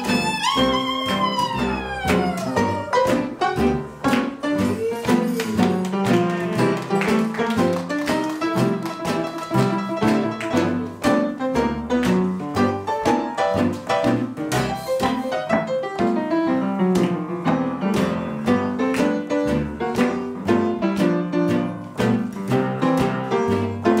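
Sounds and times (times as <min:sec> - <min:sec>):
acoustic instruments backing: 0:00.0 - 0:24.0
upright piano chords: 0:00.0 - 0:24.0.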